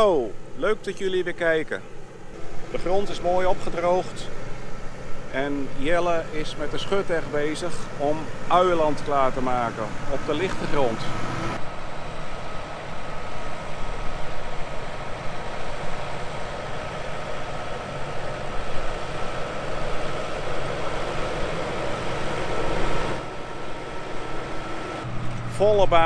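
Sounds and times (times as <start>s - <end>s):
thin steady whine: 0.0s - 26.0s
tractor engine running: 0.0s - 26.0s.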